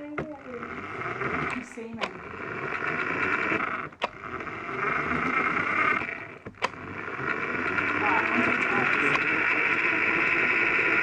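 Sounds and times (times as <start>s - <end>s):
toy car electric motor whirring: 0.0s - 11.0s.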